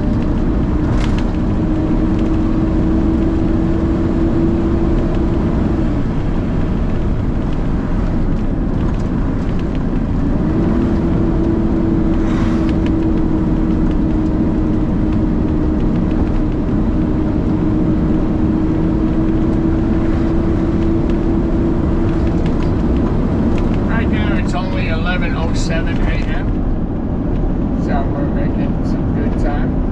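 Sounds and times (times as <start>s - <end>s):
diesel truck engine drone: 0.0s - 29.9s.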